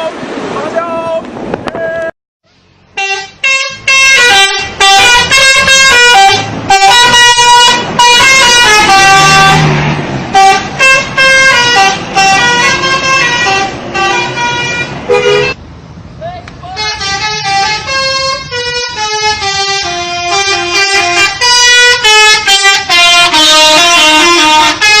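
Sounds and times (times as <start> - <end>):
tuned air horns playing tune: 2.9 - 15.6, 16.7 - 25.0.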